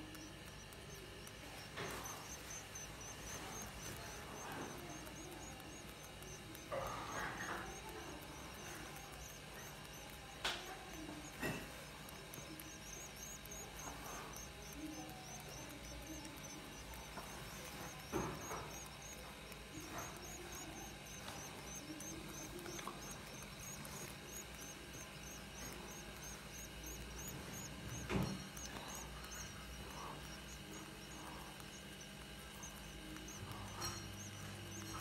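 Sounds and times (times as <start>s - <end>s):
nestlings peeping: 0.0s - 35.0s.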